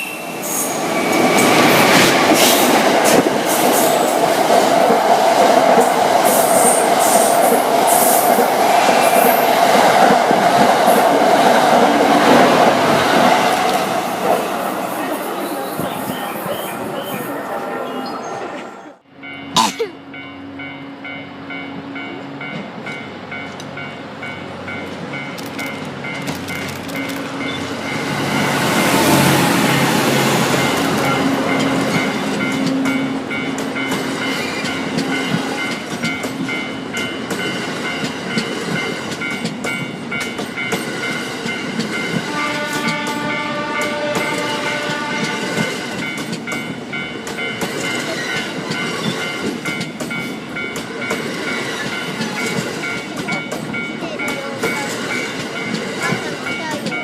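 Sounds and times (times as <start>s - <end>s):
train wheels clacking on rails: 0.0s - 17.4s, 21.7s - 57.0s.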